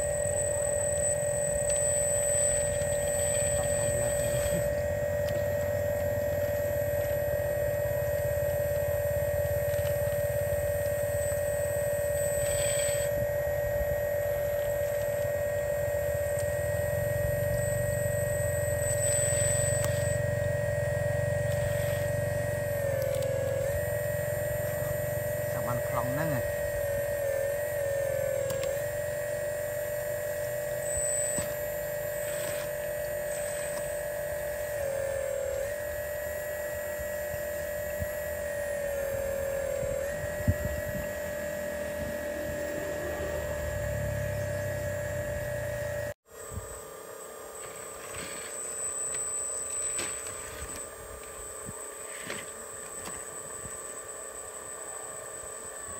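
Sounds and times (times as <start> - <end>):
model excavator motor humming: 0.0 - 55.9.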